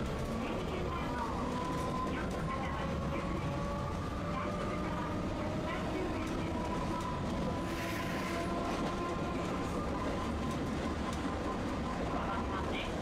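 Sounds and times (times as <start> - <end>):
streetcar wheels rumbling: 0.0 - 13.0.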